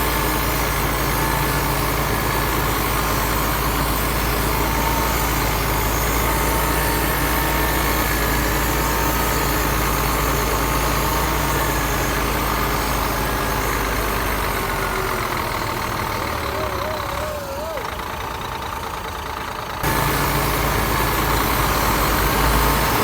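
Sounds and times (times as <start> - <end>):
heavy diesel machinery running: 0.0 - 23.0.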